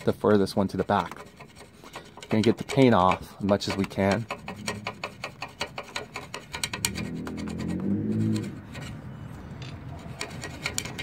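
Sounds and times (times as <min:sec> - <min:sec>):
hand file rasping on metal: 0:00.0 - 0:11.0.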